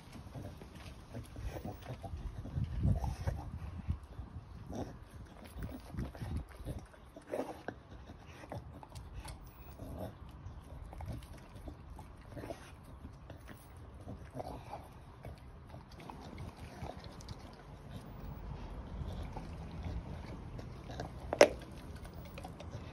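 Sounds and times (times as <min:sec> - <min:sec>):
puppy gnawing and chewing bone: 0:00.0 - 0:22.9
teeth clicking on bone: 0:03.9 - 0:22.9.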